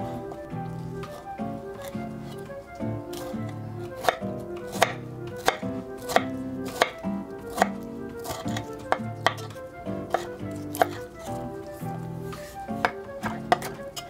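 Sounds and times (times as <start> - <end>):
knife slicing tomato on wooden board: 0.0 - 14.0
lo-fi background music: 0.0 - 14.0.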